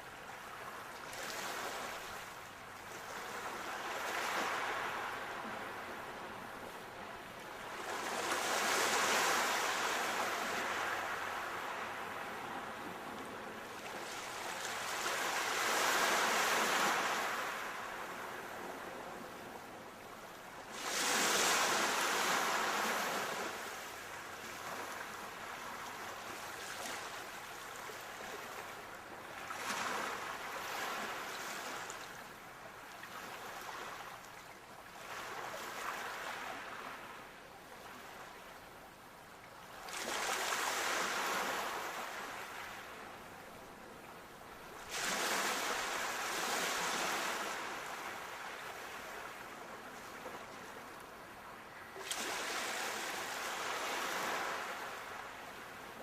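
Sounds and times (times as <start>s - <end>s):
sea waves breaking on shore: 0.3s - 19.7s, 20.5s - 37.2s, 39.7s - 44.0s, 44.6s - 56.0s.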